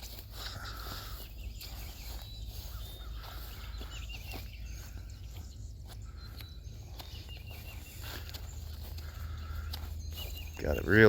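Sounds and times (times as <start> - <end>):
faint bird chirps: 0.0 - 11.0
soft footsteps: 0.0 - 11.0.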